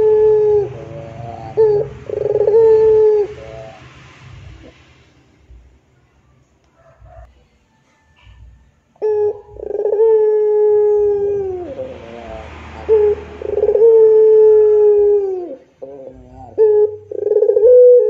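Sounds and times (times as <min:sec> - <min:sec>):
dove cooing: 0:00.0 - 0:04.8, 0:08.3 - 0:18.0.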